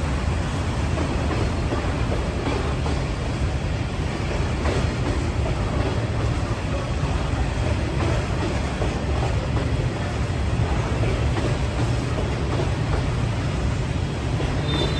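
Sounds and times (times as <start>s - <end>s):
freight train rumbling past: 0.0s - 14.9s.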